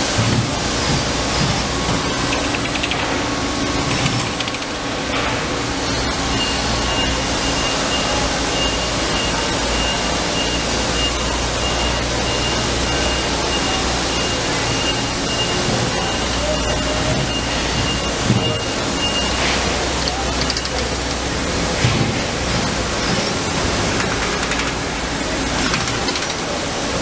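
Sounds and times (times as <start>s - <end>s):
machinery humming: 0.0s - 27.0s.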